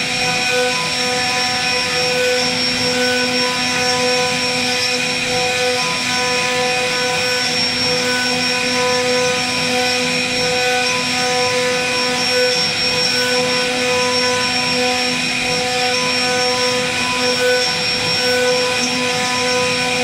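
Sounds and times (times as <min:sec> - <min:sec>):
router spindle whine: 0:00.0 - 0:20.0.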